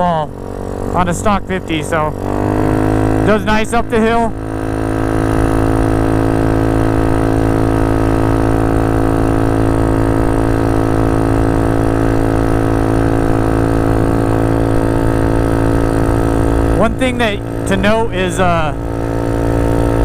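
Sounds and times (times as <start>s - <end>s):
scooter engine droning: 0.0s - 20.0s.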